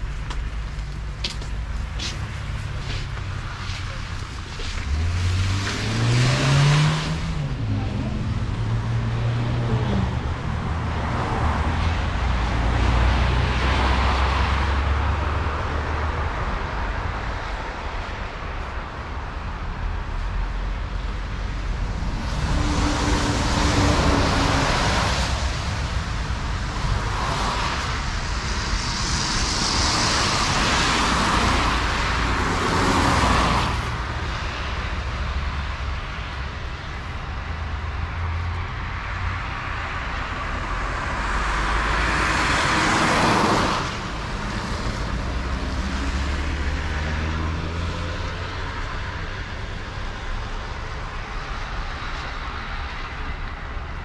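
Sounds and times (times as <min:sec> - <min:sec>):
low traffic rumble: 0:00.0 - 0:54.0
vehicles passing close by: 0:00.0 - 0:54.0.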